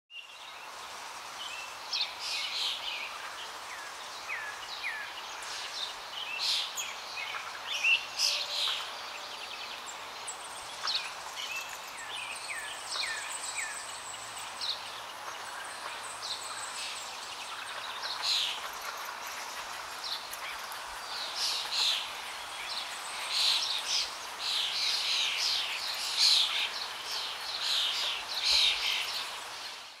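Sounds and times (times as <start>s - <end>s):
background hiss: 0.1s - 30.0s
wild birds singing and calling: 0.1s - 30.0s.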